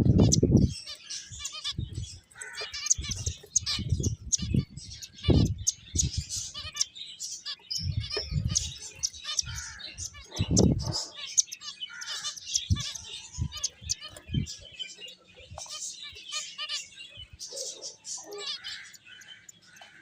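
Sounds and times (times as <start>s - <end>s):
finches chirping and trilling: 0.0s - 20.0s.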